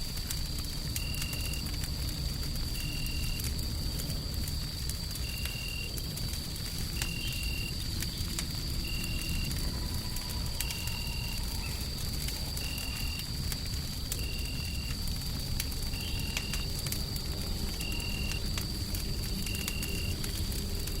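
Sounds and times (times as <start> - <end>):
low rumble of noise: 0.0 - 21.0
wood fire crackling and popping: 0.0 - 21.0.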